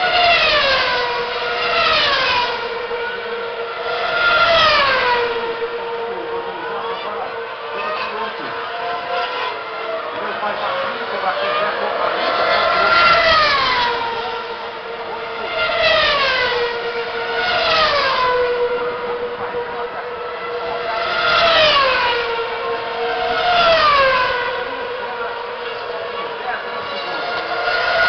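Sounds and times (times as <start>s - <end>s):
racing car engines screaming past: 0.0s - 28.0s.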